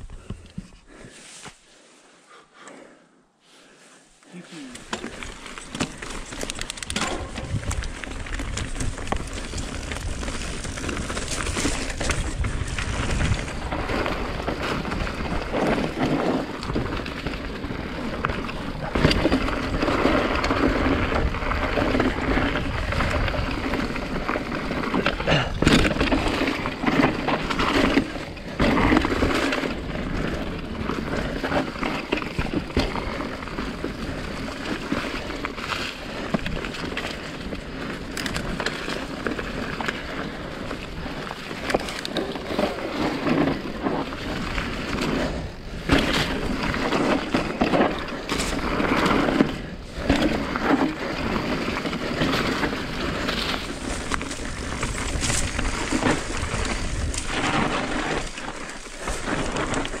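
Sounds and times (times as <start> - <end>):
bike tyres rolling on dirt: 0.0 - 2.2, 4.6 - 60.0
bike rattling over bumps: 4.8 - 60.0.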